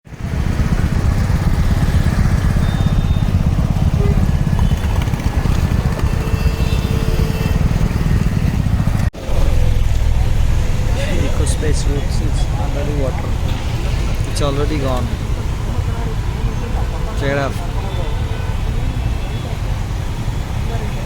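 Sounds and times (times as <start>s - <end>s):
motor vehicle low rumble: 0.1s - 21.0s.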